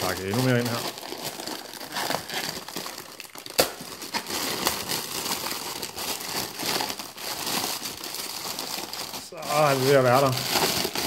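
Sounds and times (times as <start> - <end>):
plastic wrapping crinkling: 0.0 - 11.0
plastic wrapping snap: 0.0 - 11.0.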